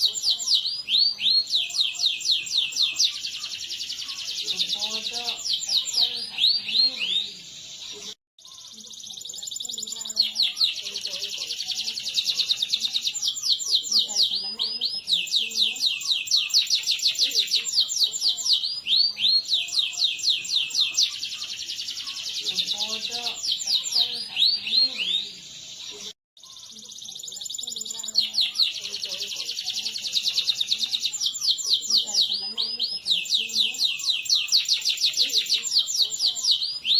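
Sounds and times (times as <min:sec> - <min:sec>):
canary chirps: 0:00.0 - 0:36.9
canary trilling: 0:00.0 - 0:36.9.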